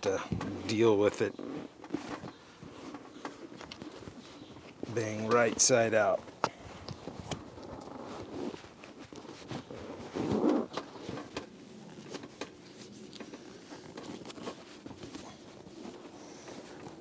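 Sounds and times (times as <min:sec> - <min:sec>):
leather cover rustling and scraping: 0:00.0 - 0:17.0.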